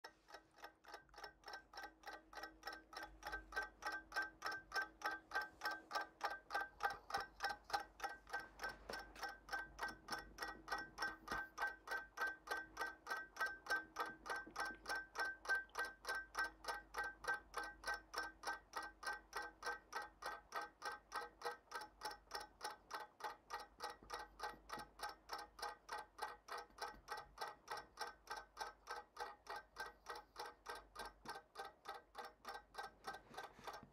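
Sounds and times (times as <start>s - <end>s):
clocks ticking: 0.0s - 33.9s.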